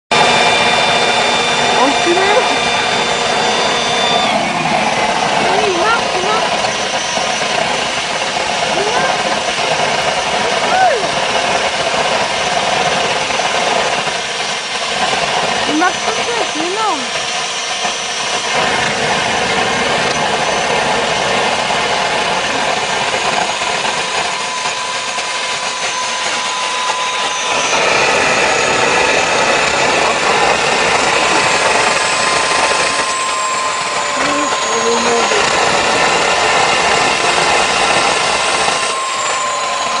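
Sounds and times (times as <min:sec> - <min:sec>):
jet engine combustion roar: 0:00.1 - 0:40.0
turbocharger whine: 0:00.1 - 0:40.0.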